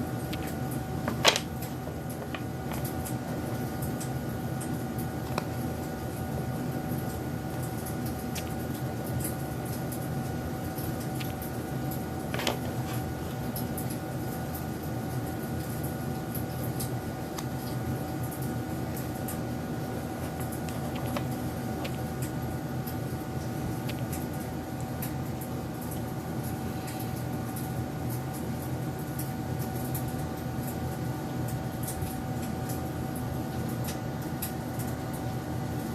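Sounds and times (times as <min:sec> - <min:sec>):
mechanical hum: 0:00.0 - 0:35.9.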